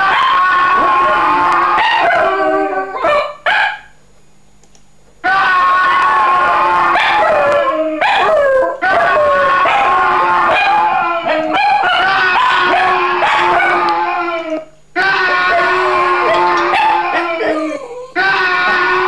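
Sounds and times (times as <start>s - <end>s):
dog howling: 0.0s - 3.4s, 5.2s - 19.0s.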